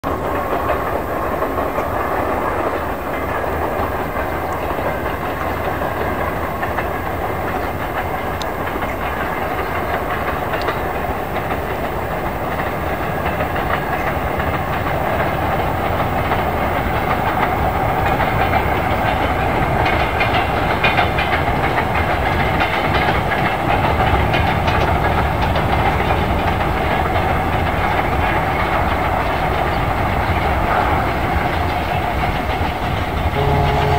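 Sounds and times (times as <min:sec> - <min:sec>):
diesel freight train rumbling: 0:00.0 - 0:33.9.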